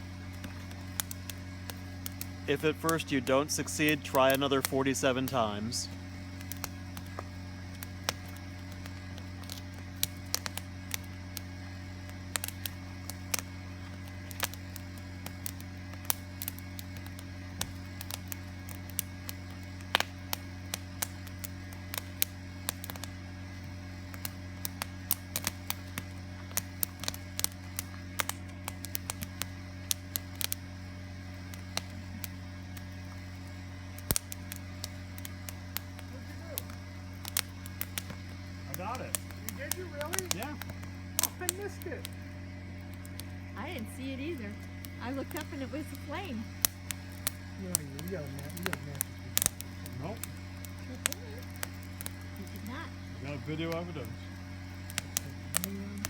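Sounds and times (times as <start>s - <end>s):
campfire crackling and popping: 0.0s - 56.0s
low steady hum: 0.0s - 56.0s.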